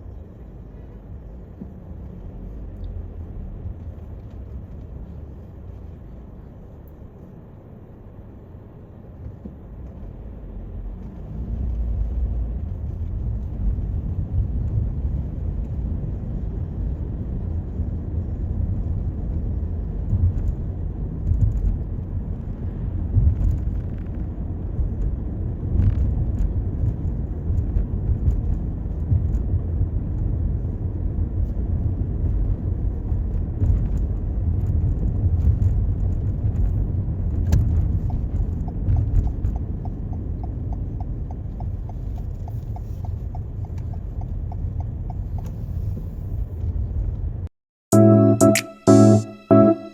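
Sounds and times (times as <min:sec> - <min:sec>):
car engine and road rumble: 0:00.0 - 0:48.1.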